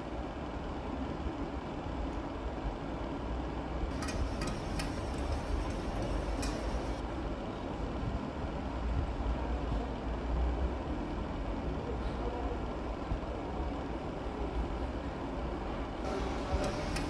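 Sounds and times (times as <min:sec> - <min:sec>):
steady low hum: 0:00.0 - 0:09.2, 0:12.2 - 0:17.0.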